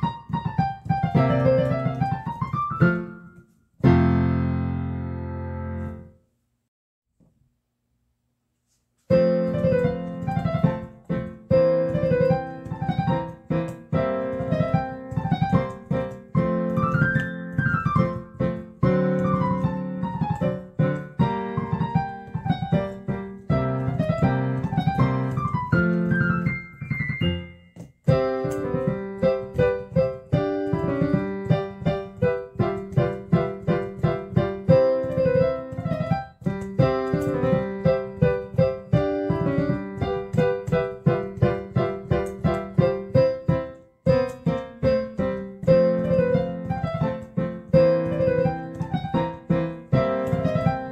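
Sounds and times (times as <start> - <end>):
piano music: 0.0 - 6.2, 9.1 - 50.9.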